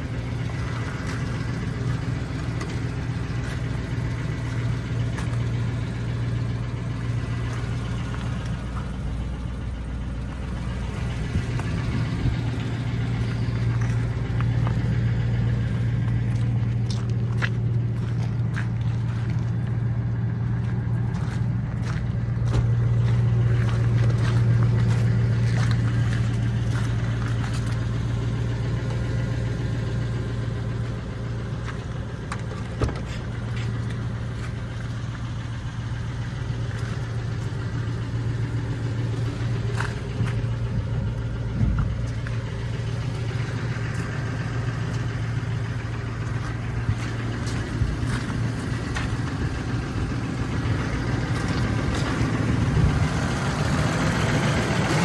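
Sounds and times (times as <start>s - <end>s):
pickup engine idling: 0.0s - 55.0s.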